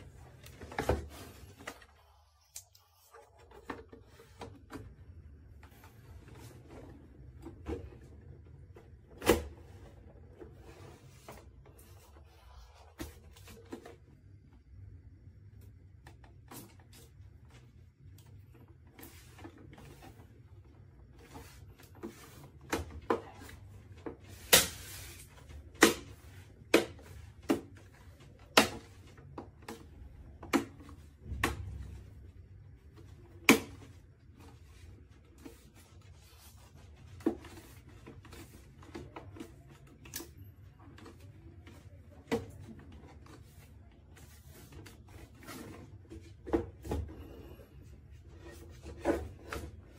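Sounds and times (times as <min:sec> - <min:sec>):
low steady hum: 0:00.0 - 0:49.9.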